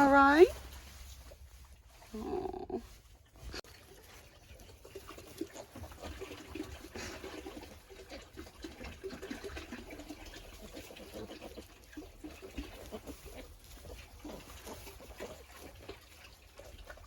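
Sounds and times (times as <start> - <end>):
pigs snuffling: 0.0 - 17.0
pigs grunting softly: 1.9 - 17.0.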